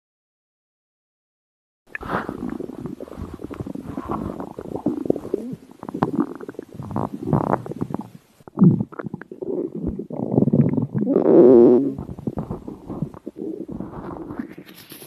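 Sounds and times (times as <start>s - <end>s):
stomach growling and gurgling: 1.9s - 15.0s.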